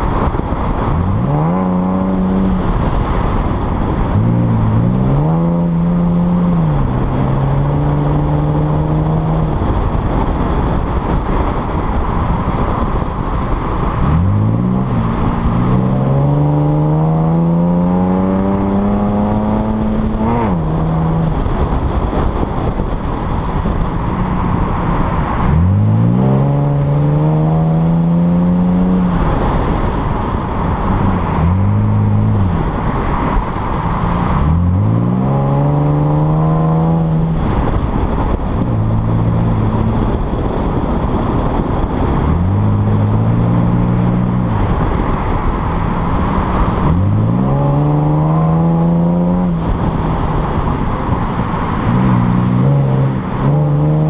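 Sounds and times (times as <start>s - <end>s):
car engine revving: 0.0s - 54.0s
wind and road noise: 0.0s - 54.0s.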